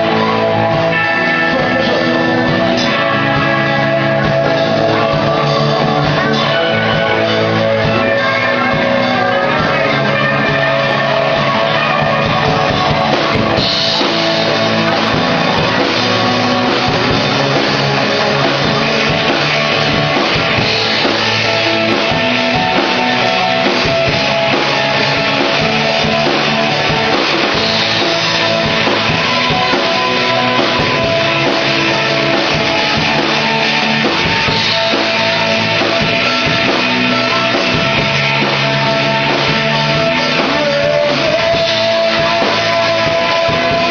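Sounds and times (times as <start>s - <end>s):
drum kit: 0.0s - 43.9s
electric guitar: 0.0s - 43.9s
rock band playing live: 0.0s - 43.9s.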